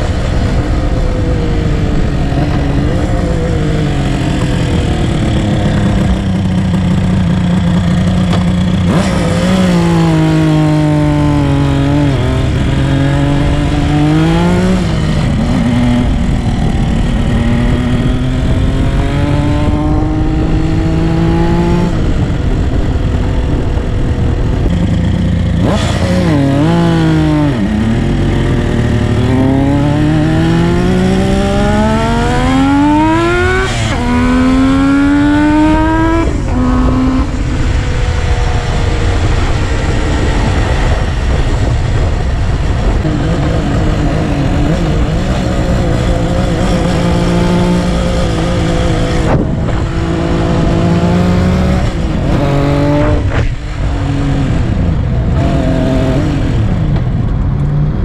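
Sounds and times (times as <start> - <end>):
two-stroke motorcycle engine accelerating: 0.0 - 58.0.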